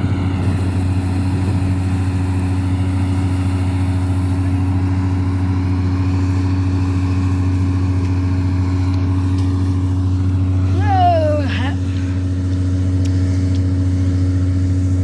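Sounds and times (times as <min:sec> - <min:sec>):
combine harvester engine humming: 0:00.0 - 0:15.0.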